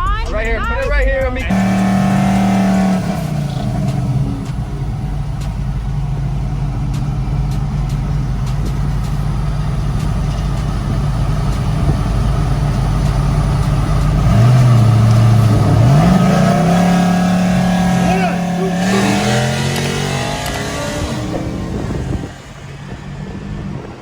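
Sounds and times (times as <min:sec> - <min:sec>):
vehicle engine idling: 0:01.5 - 0:24.0.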